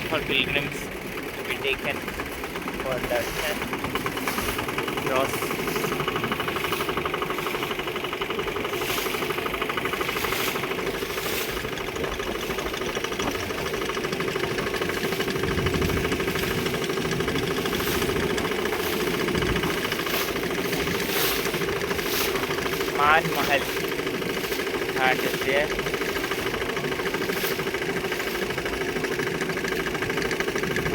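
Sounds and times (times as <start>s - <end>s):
motorboat engine chugging: 0.0s - 30.9s.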